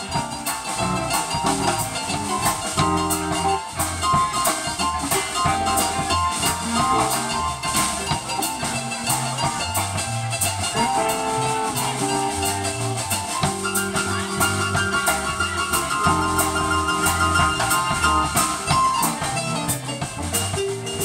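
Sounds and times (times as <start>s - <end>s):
drum kit with cymbal hits: 0.0s - 21.0s
electric guitars: 0.0s - 21.0s
keyboard: 0.0s - 21.0s
low bass line: 0.0s - 21.0s.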